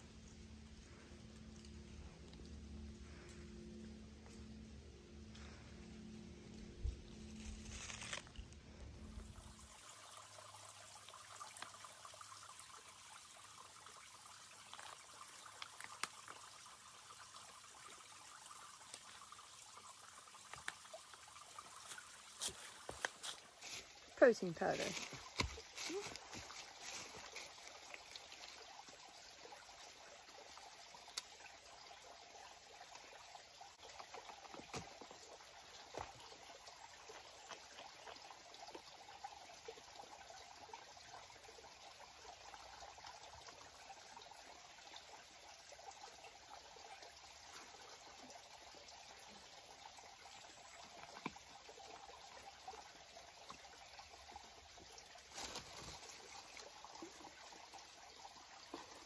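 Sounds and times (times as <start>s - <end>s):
trickle of stream water: 0.0s - 59.0s.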